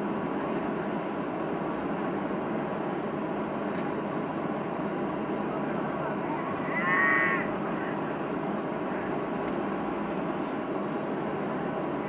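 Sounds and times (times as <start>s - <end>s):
airplane cabin rumble and hiss: 0.0s - 12.0s.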